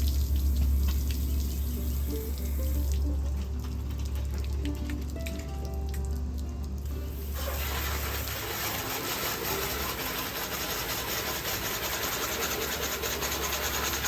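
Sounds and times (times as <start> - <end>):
water spray hissing on car: 0.0 - 5.1, 6.9 - 14.0.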